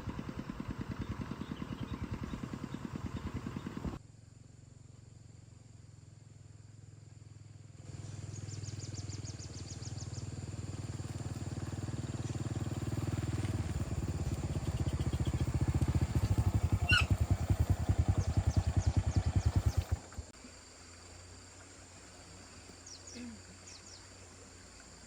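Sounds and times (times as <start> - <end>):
motorcycle engine approaching: 0.0 - 20.4.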